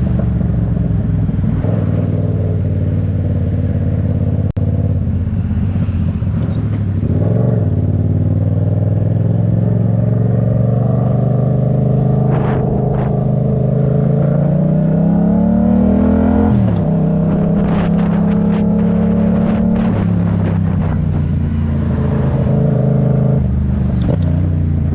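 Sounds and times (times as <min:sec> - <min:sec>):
vehicle engine accelerating: 0:00.0 - 0:24.9.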